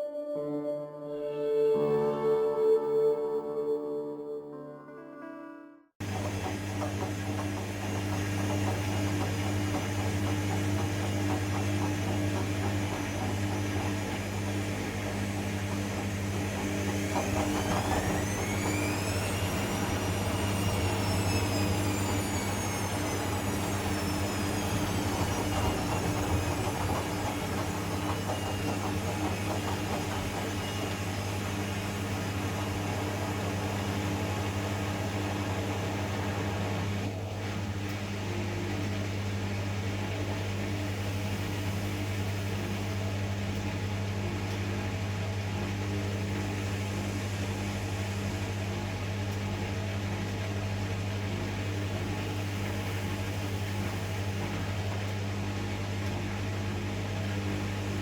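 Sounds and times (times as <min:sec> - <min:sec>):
washing machine humming: 0:06.0 - 0:58.0.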